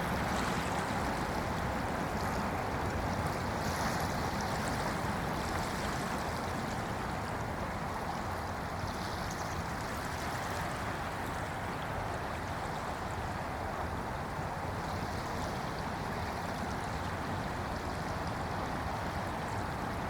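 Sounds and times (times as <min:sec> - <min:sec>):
small waves washing on beach: 0:00.0 - 0:20.0.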